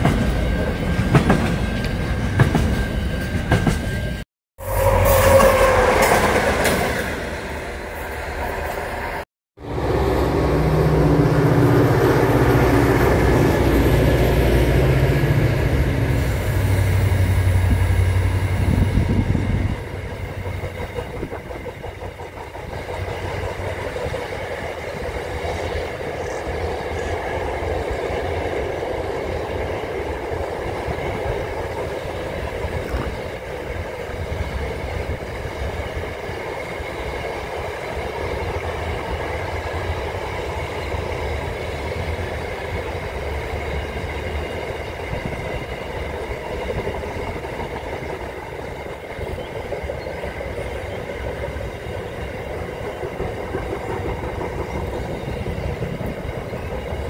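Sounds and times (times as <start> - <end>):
diesel locomotive engine droning: 0.0 - 57.0
train wagons rumbling over bridge: 0.0 - 57.0.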